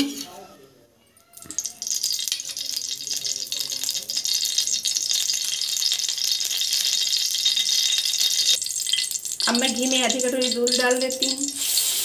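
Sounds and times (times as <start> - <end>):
ghee sizzling in a pan: 1.3 - 12.0.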